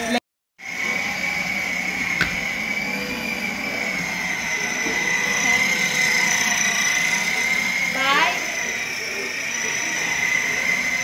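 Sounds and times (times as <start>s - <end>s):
toy motor whining: 0.6s - 11.0s.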